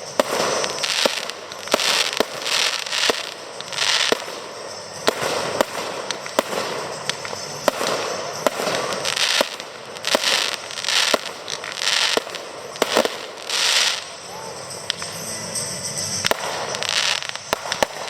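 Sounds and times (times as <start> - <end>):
crackling hiss of fireworks: 0.0 - 18.0
firework shells bursting: 0.0 - 18.0.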